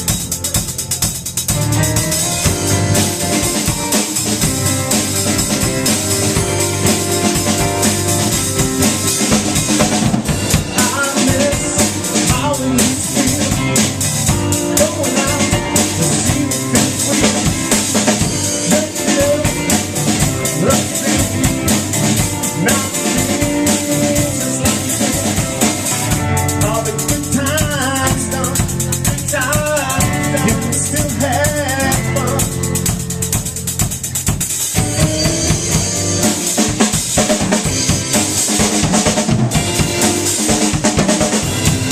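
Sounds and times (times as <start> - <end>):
drum kit: 0.0 - 41.9
rock band playing: 0.0 - 41.9.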